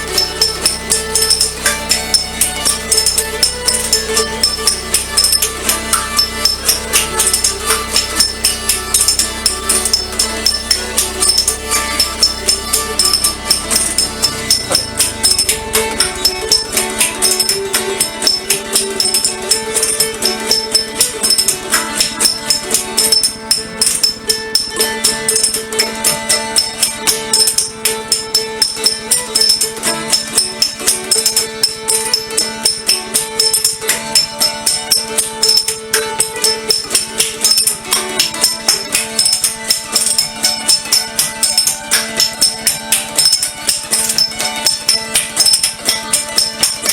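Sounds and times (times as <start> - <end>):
music with fast percussion beat: 0.0 - 46.9.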